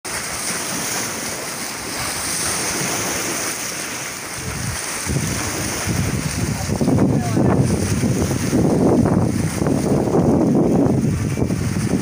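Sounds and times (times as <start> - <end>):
sea waves washing over rocks: 0.1 - 12.0
wind gusting on microphone: 0.3 - 12.0.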